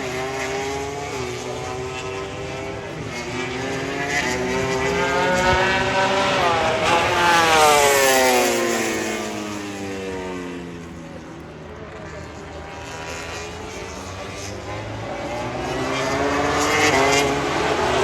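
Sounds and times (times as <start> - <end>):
racing motorcycle passing: 0.0 - 18.0.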